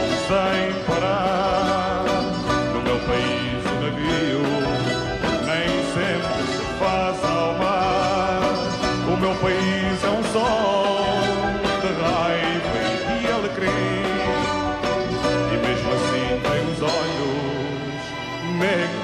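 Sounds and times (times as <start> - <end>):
instrumental pop music: 0.0 - 19.0.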